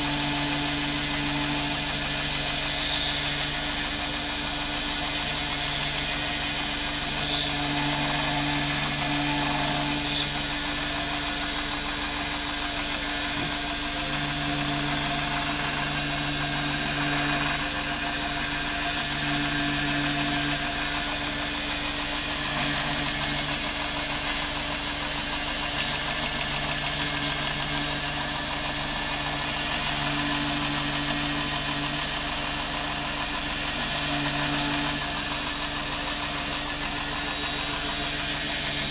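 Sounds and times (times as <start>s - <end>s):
belt grinder motor hum: 0.0s - 38.9s.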